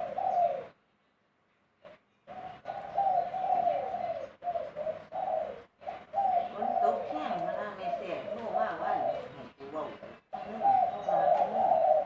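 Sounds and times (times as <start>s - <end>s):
dove cooing: 0.0s - 0.8s, 1.8s - 12.0s.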